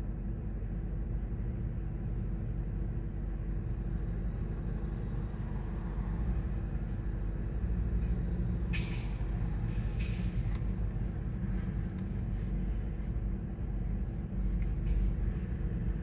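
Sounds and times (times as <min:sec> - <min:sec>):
constant droning hum: 0:00.0 - 0:16.0
low mechanical rumble: 0:00.0 - 0:16.0.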